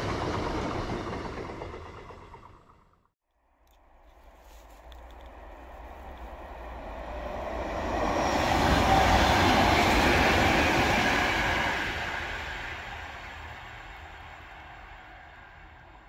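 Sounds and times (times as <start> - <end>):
train wheels rumbling on rails: 0.0 - 3.1, 4.0 - 16.0.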